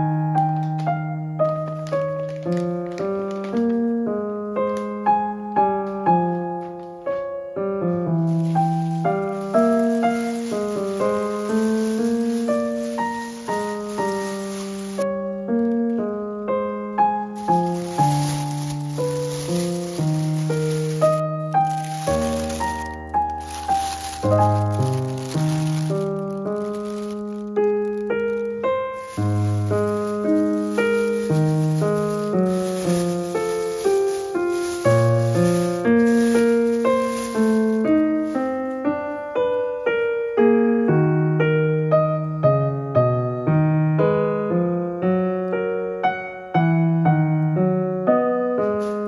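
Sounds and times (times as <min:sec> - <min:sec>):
gentle piano melody: 0:00.0 - 0:49.0.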